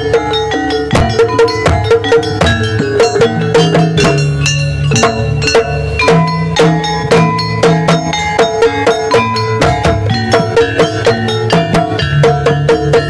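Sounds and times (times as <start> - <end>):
gamelan-style percussion ensemble: 0.0 - 13.0.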